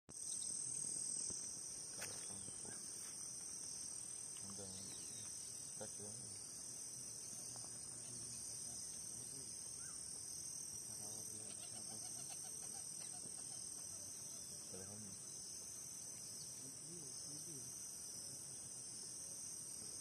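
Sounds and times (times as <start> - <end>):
insects chorus: 0.1 - 20.0.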